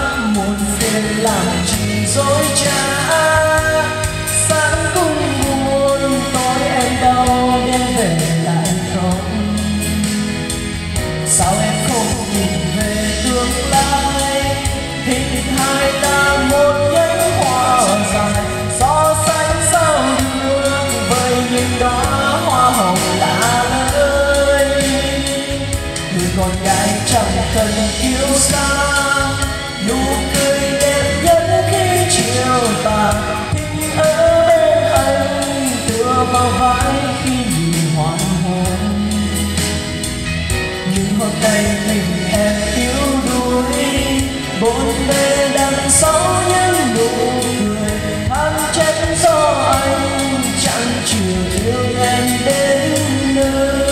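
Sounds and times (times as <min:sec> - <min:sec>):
karaoke music with heavy bass: 0:00.0 - 0:53.9
man singing into microphone: 0:00.0 - 0:53.9.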